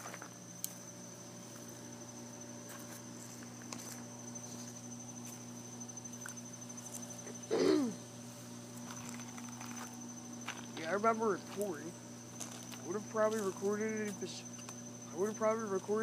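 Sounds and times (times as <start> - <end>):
insect trilling: 0.0 - 16.0
low steady hum: 0.0 - 16.0.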